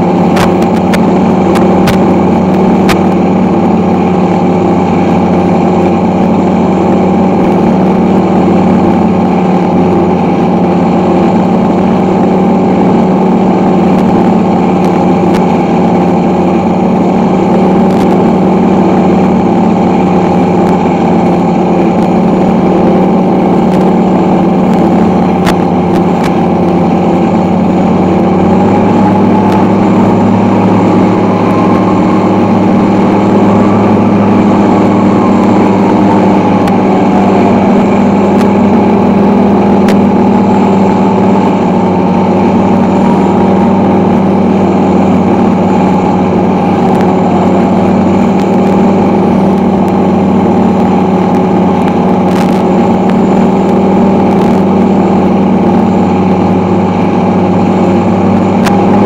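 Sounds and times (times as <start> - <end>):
recorded aircraft engine sound: 0.0 - 59.0.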